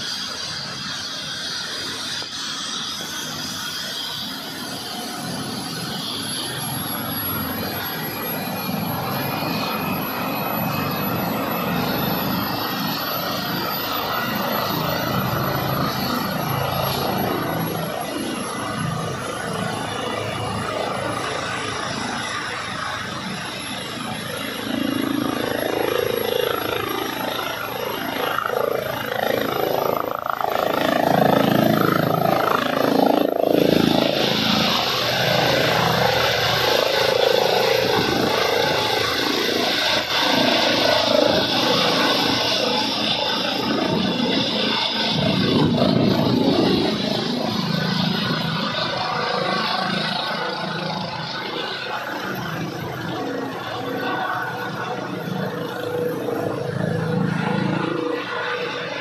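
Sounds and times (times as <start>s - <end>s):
helicopter turbine whine: 0.0s - 59.0s
rushing rotor noise: 0.0s - 59.0s.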